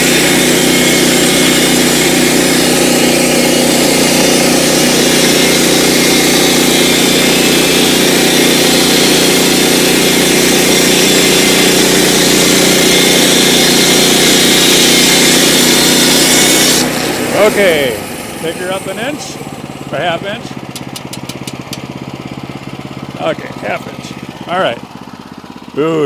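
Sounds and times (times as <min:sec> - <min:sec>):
saw blade cutting log: 0:00.0 - 0:26.0
sawmill engine under load: 0:00.0 - 0:26.0.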